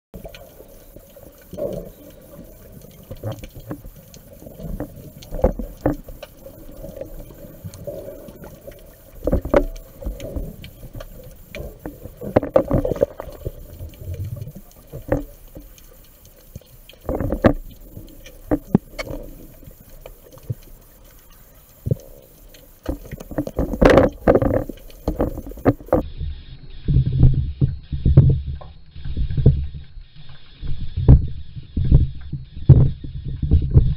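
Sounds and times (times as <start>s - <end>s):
knocks and clicks underwater: 0.1s - 26.0s, 26.9s - 33.9s
muffled underwater water movement: 0.1s - 33.9s.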